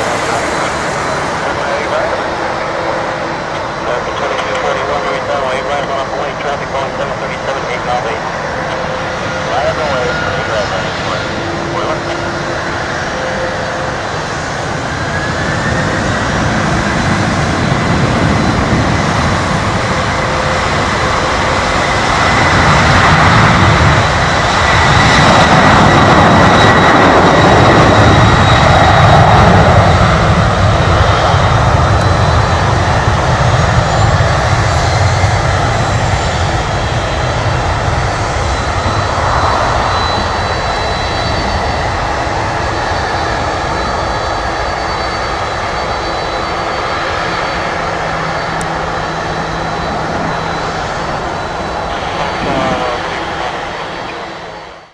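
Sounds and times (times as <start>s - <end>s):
jet engine roar and whine: 0.0s - 54.9s.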